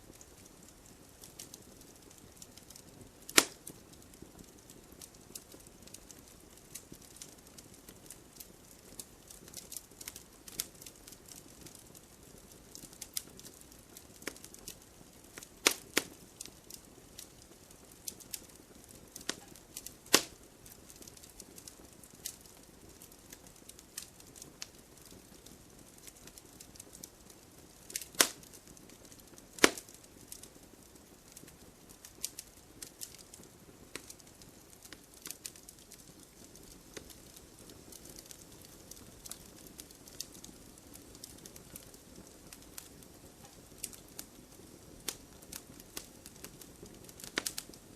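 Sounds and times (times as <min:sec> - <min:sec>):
campfire crackling and popping: 0:00.0 - 0:47.9
soft fire hiss: 0:00.0 - 0:47.9
sharp snaps of burning wood: 0:00.1 - 0:47.9.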